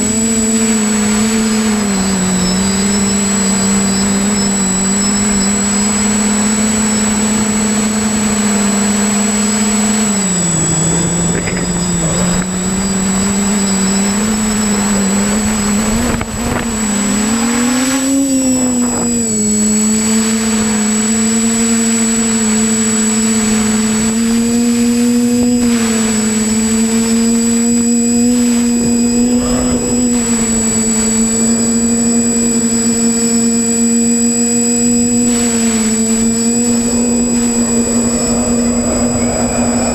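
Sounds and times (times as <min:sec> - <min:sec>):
drone propellers droning: 0:00.0 - 0:39.9
high whine: 0:00.0 - 0:39.9.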